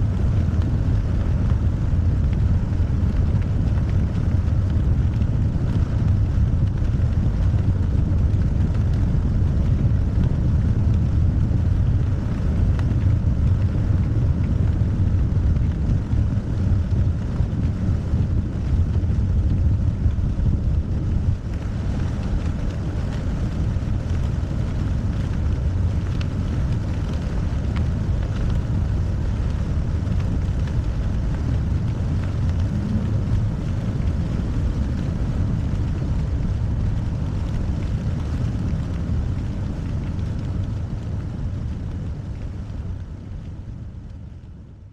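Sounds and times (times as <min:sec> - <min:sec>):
wind noise on microphone: 0:00.0 - 0:44.9.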